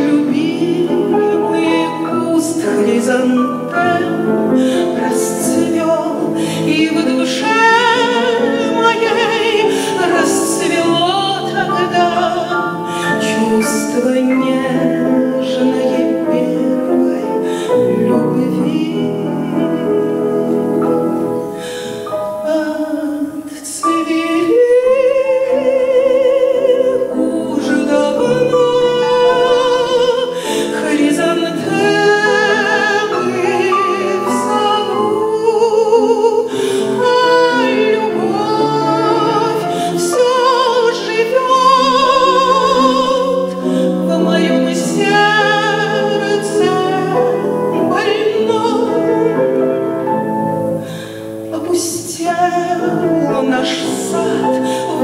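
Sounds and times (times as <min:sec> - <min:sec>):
grand piano: 0:00.0 - 0:55.0
woman singing classical: 0:00.0 - 0:55.0.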